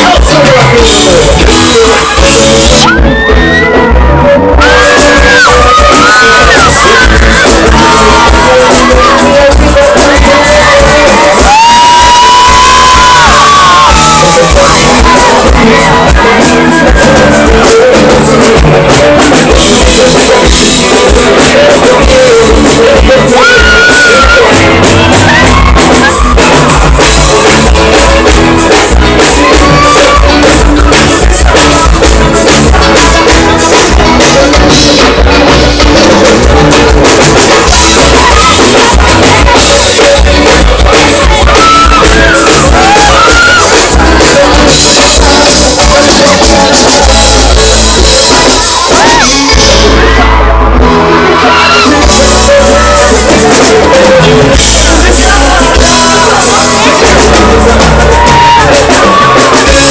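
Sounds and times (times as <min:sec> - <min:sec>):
drum kit: 0:00.0 - 0:59.9
live band music: 0:00.0 - 0:59.9
man singing: 0:00.0 - 0:59.9.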